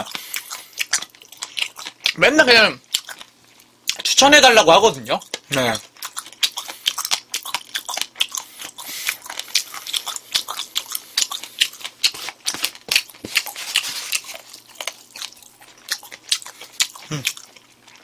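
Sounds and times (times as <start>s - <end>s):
person chewing food: 0.0s - 2.2s, 2.8s - 4.2s, 5.2s - 18.0s.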